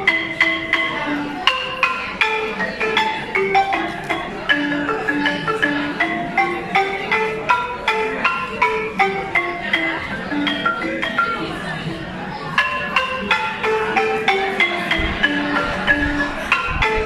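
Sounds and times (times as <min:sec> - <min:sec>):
balafon notes: 0:00.0 - 0:17.0.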